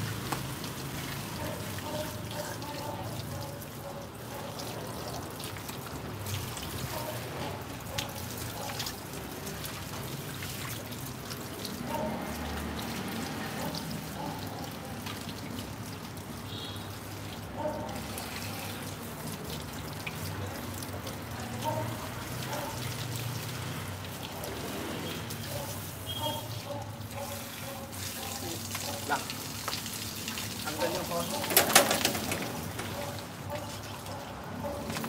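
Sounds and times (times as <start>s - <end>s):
hose water splashing: 0.0s - 35.0s.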